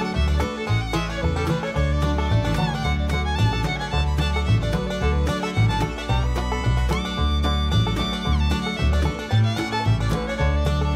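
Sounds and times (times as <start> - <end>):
instrumental background music: 0.0 - 10.9.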